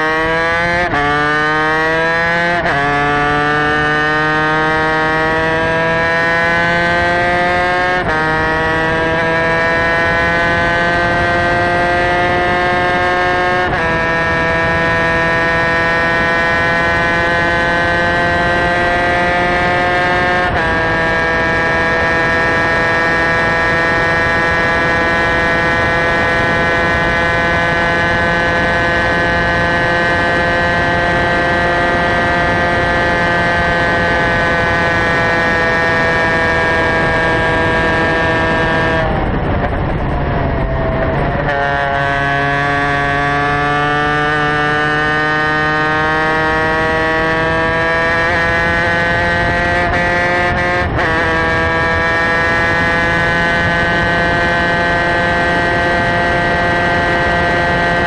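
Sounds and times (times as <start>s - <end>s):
racing kart engine at high revs: 0.0s - 58.0s
wind rush: 4.6s - 58.0s.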